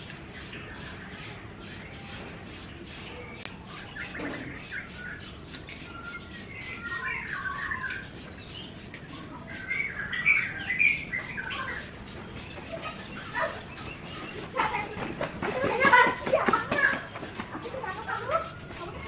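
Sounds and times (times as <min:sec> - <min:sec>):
birds chirping and twittering: 0:00.0 - 0:19.0.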